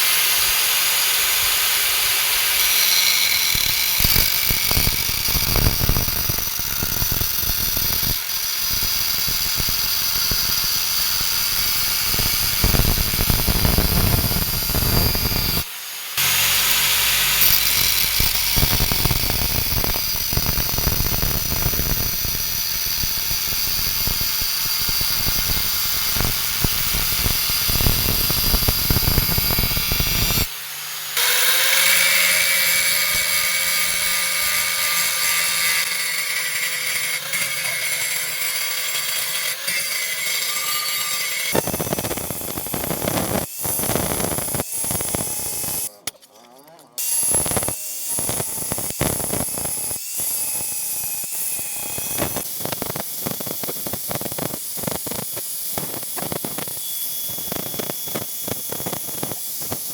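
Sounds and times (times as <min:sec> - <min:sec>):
power grinder grinding steel: 0:00.0 - 0:46.1, 0:46.8 - 0:59.9.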